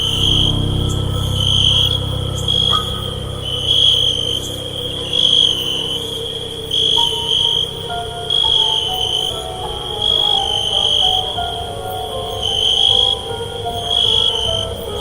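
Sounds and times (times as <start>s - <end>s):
faint eerie tones: 0.0s - 15.0s
high cricket chirring: 0.0s - 15.0s
low rumbling drone: 0.0s - 15.0s.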